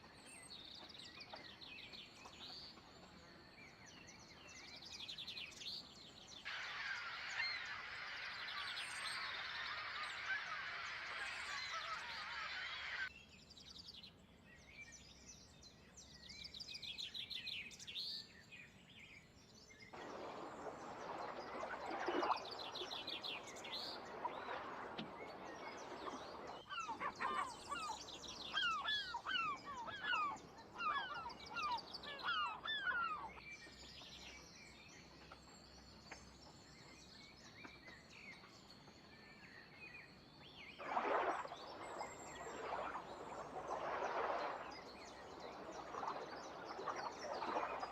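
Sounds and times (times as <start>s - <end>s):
small birds singing: 0.0s - 47.9s.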